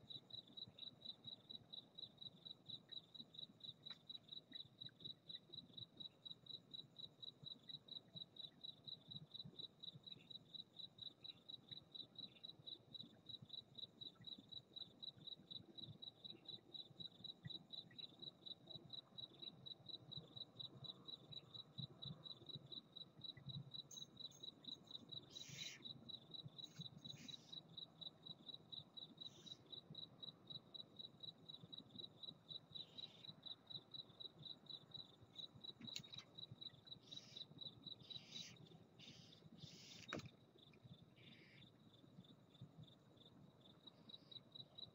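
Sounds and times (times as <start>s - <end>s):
cricket chirping: 0.0s - 44.9s.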